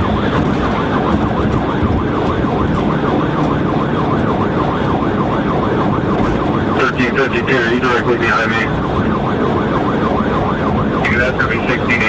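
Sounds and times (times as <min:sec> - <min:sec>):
car engine and road noise: 0:00.0 - 0:12.0
police siren yelp: 0:00.0 - 0:12.0.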